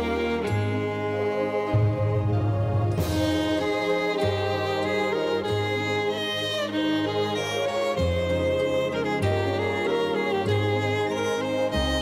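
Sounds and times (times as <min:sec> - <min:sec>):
slow instrumental music: 0:00.0 - 0:12.0.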